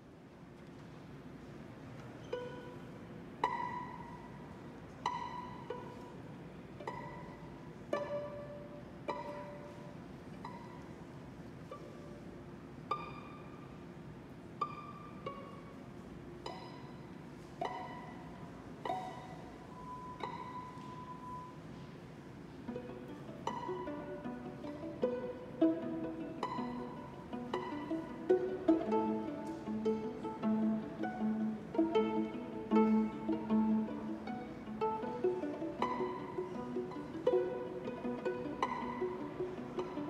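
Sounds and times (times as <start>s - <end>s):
violin and viola pizzicato: 0.7s - 40.0s.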